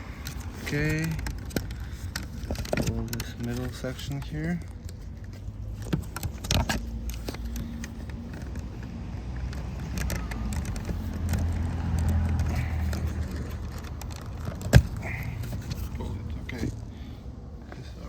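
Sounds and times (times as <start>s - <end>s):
plastic trim clicking and rattling: 0.2s - 15.9s.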